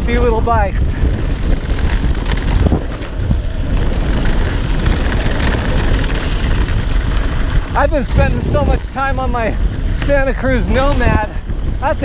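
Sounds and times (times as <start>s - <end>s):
bike tyres rumbling on dirt: 0.0s - 12.0s
wind on microphone: 0.0s - 12.0s
bike knocking over rough ground: 1.1s - 11.8s.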